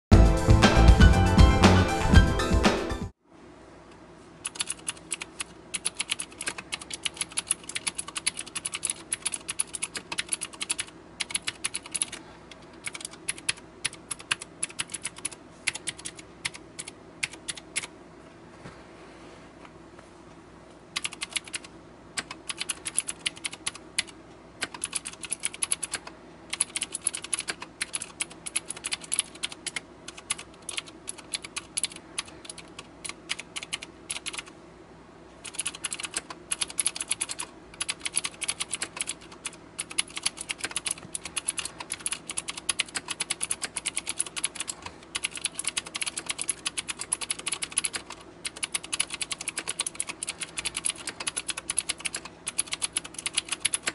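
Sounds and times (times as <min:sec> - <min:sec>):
fast typing on clicky keyboard: 0:04.4 - 0:17.9, 0:21.0 - 0:34.5, 0:35.4 - 0:53.9.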